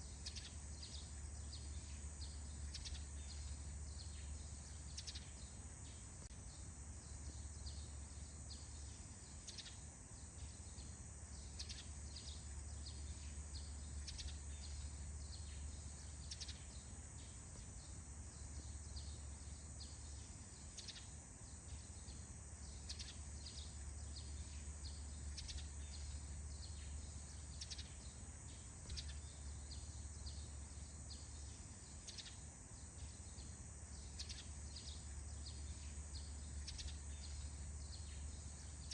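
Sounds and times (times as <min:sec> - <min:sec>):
birds chirping: 0:00.0 - 0:38.9
high insect buzz: 0:00.0 - 0:38.9.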